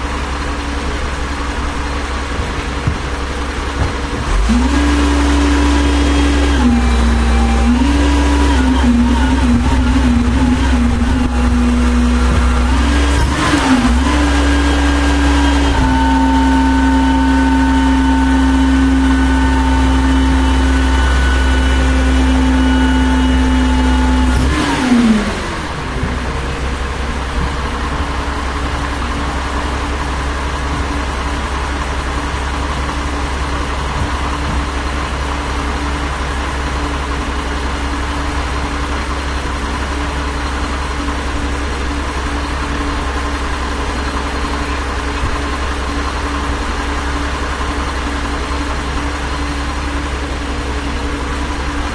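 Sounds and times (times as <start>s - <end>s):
engine whine: 0.0s - 51.9s
truck diesel engine running: 0.0s - 51.9s.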